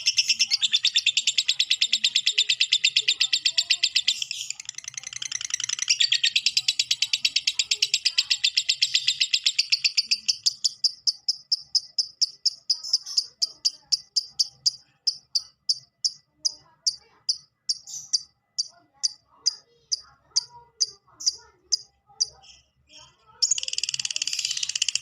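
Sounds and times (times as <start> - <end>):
lovebird trilling high chirps: 0.0 - 25.0.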